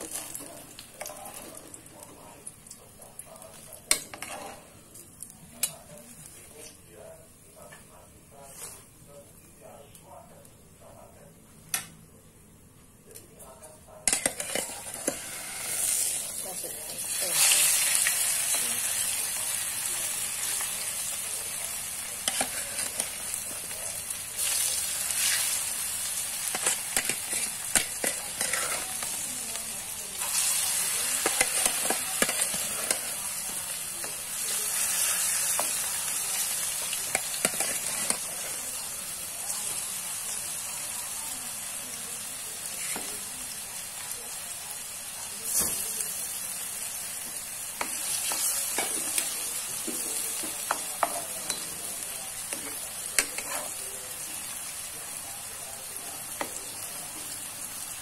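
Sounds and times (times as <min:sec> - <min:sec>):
food deep-frying in hot oil: 0:00.0 - 0:06.8, 0:14.0 - 0:58.0.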